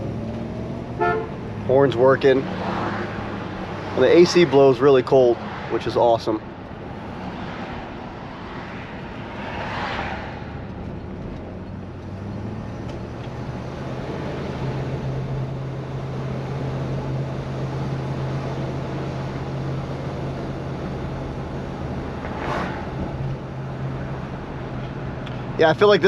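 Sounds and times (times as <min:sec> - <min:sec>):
car engine hum: 0:00.0 - 0:26.0
road and tyre noise: 0:00.0 - 0:26.0.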